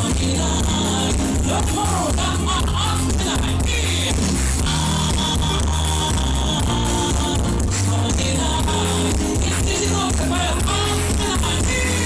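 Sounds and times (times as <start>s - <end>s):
man singing into a microphone: 0.0s - 12.0s
pop backing track with heavy bass: 0.0s - 12.0s.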